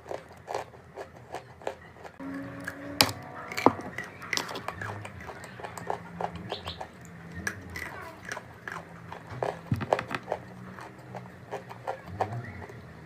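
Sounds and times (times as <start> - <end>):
chalk crunching while chewed: 0.0 - 2.8, 3.5 - 12.7.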